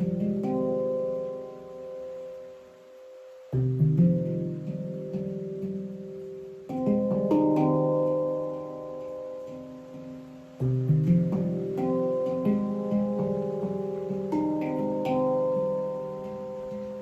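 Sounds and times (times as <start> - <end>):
handpan ringing notes: 0.0 - 17.0.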